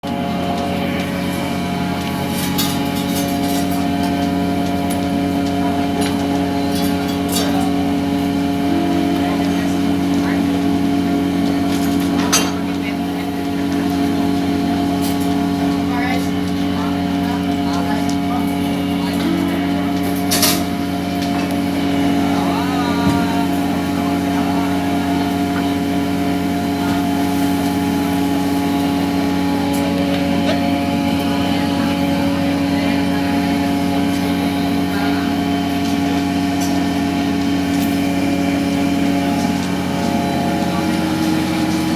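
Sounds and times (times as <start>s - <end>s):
machinery droning hum: 0.0s - 41.9s.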